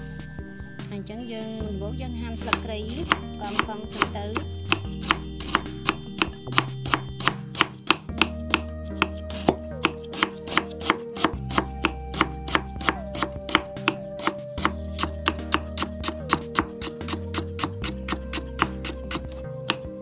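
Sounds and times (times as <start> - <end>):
background music with bass line: 0.0 - 20.0
cleaver slicing on wooden block: 2.5 - 19.8.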